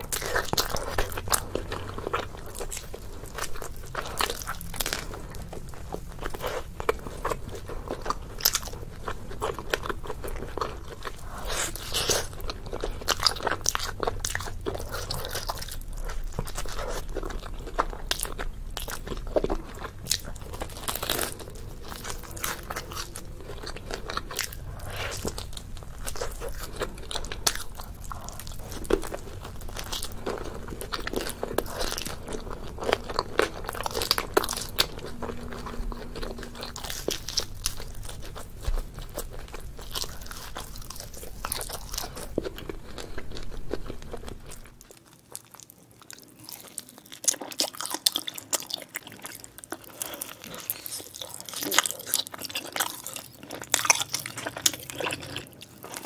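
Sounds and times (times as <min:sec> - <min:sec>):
low background hum: 0:00.0 - 0:56.0
pizza crust crunching: 0:00.0 - 0:56.0
wet chewing mouth sounds: 0:00.0 - 0:56.0.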